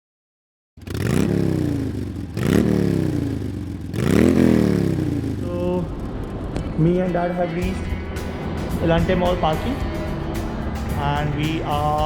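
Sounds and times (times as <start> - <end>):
motorcycle engine revving: 0.8 - 12.0.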